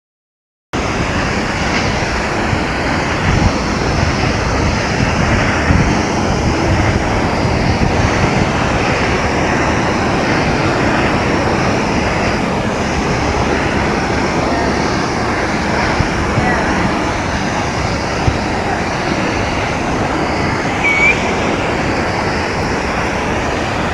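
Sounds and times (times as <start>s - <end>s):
waterfall crashing into pool: 0.8s - 23.9s.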